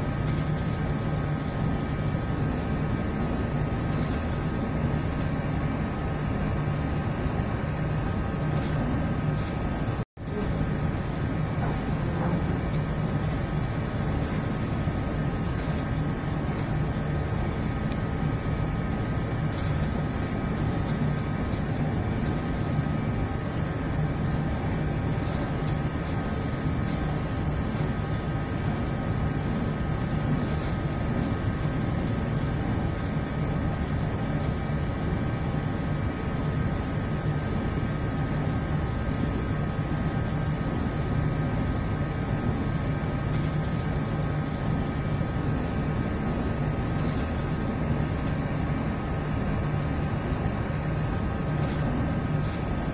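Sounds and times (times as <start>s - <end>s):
ship engine hum: 0.0s - 52.9s
wind and sea noise: 0.0s - 52.9s.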